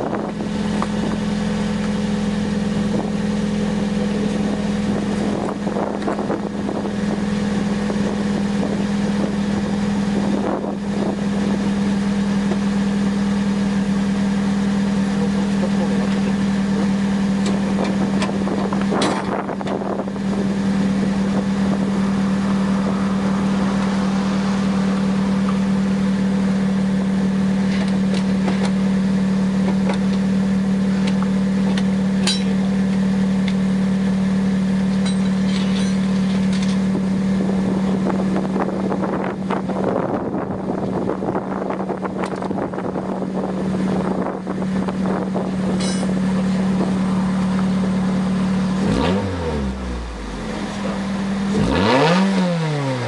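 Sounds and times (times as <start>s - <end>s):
car exhaust drone: 0.0s - 53.0s.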